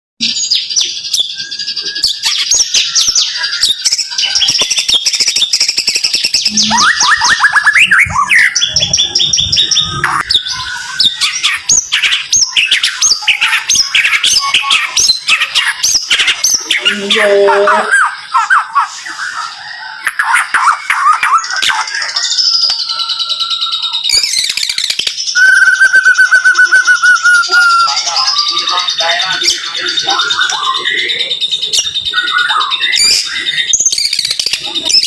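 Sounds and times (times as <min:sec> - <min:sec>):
songbird whistling rapid notes: 0:00.3 - 0:17.0, 0:17.9 - 0:35.0.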